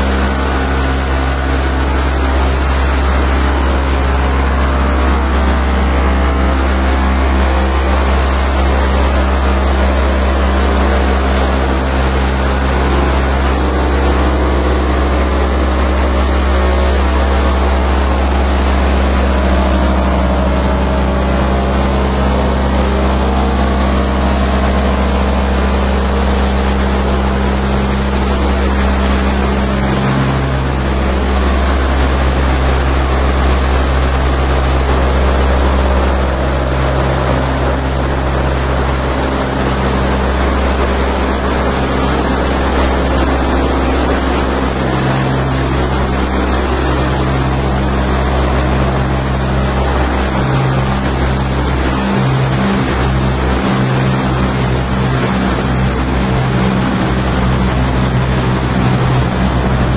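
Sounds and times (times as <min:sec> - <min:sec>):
electronic noise music: 0:00.0 - 0:59.9
low bass drone: 0:00.0 - 0:59.9
low hum: 0:00.0 - 0:59.9.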